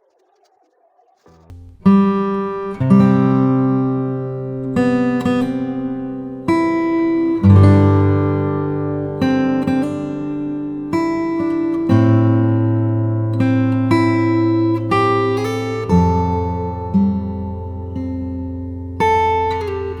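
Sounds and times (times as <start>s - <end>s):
guitar chords: 1.3s - 20.0s.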